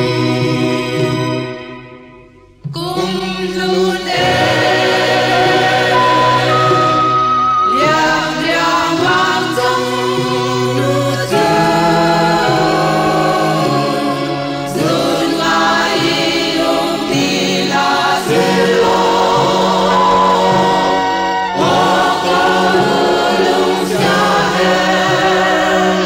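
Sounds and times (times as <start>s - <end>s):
vocal group singing in harmony: 0.0s - 2.0s, 2.8s - 26.0s.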